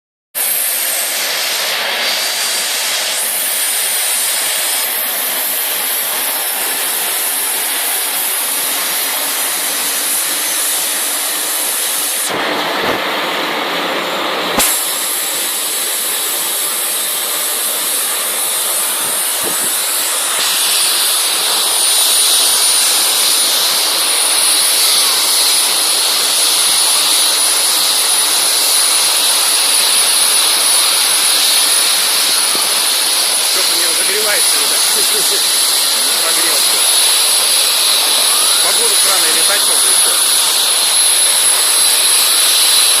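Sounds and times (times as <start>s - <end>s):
helicopter turbine whine: 0.4s - 43.0s.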